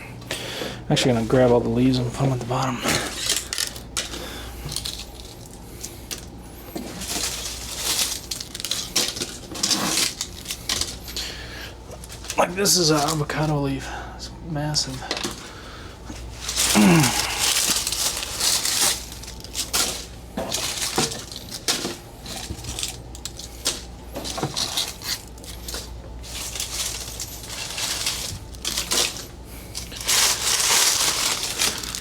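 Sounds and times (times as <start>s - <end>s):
dry leaves crushed by hand: 1.0s - 14.0s, 14.6s - 32.0s.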